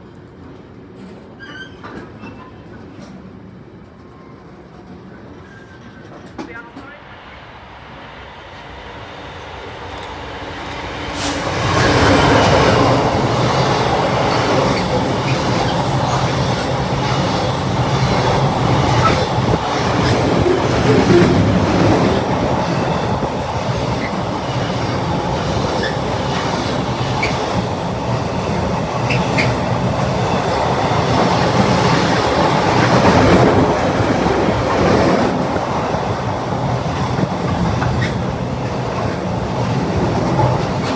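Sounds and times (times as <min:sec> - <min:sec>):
train passing: 0:03.3 - 0:40.9.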